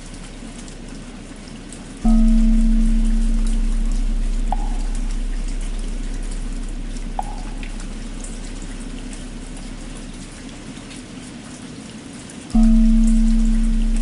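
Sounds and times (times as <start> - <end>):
low hum: 0.0 - 11.0, 12.6 - 14.0
rain falling: 0.0 - 14.0
water drips plinking: 0.0 - 14.0.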